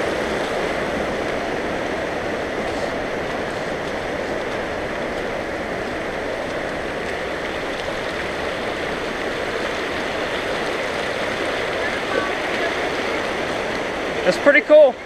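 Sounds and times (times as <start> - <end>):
creek running over rocks: 0.0 - 15.0.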